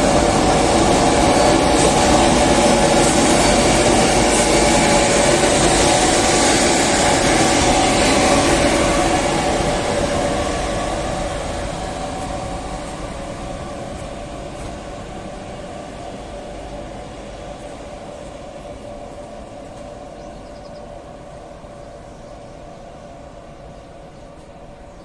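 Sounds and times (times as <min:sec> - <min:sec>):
freight train rumbling on rails: 0:00.0 - 0:25.0.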